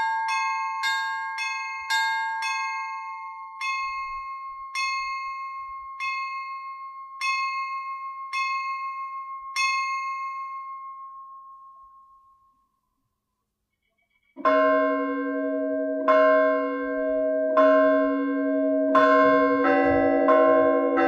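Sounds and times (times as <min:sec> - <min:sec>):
small church bell strokes: 0:00.0 - 0:12.7, 0:13.9 - 0:21.0.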